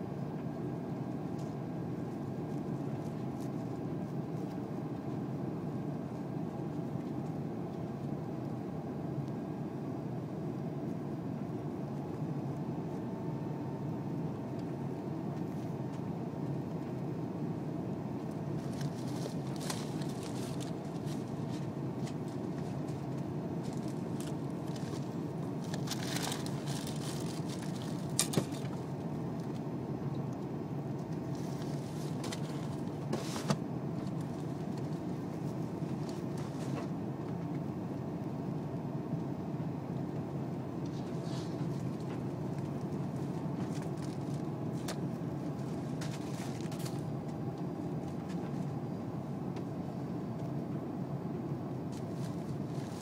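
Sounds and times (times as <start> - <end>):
aircraft cabin roar: 0.0 - 53.0.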